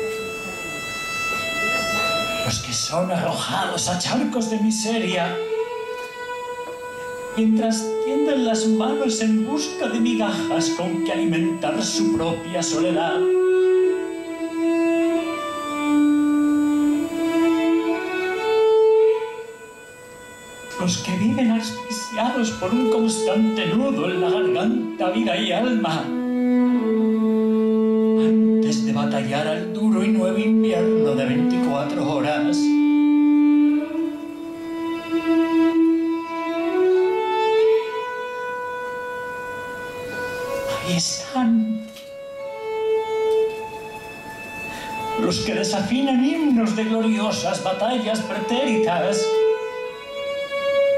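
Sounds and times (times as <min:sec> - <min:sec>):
violin slow melody: 0:00.0 - 0:50.9.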